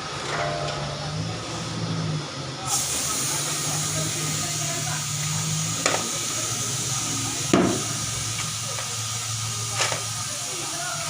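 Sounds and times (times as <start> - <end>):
constant hiss: 0.0 - 11.0
tire-changer machine humming: 0.0 - 11.0.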